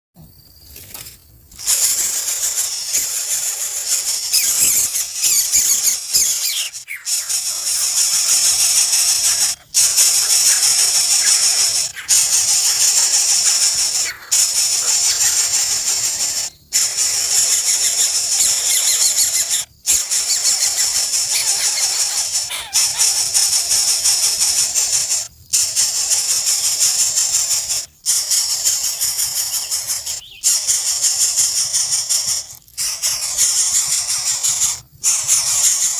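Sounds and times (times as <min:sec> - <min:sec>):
nestling birds chirping: 0:00.5 - 0:35.9.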